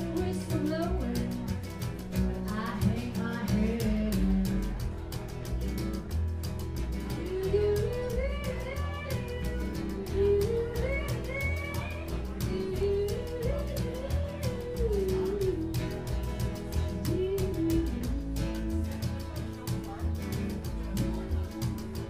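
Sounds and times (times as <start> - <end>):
percussion beat: 0.0 - 22.0
plucked double bass: 0.0 - 22.0
strummed acoustic guitar: 0.0 - 22.0.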